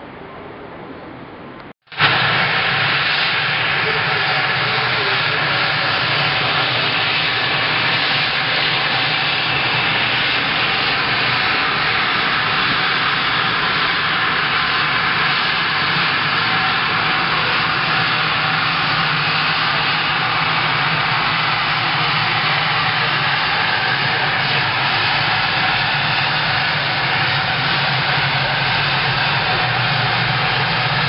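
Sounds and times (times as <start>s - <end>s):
jet engines running: 0.0s - 31.0s.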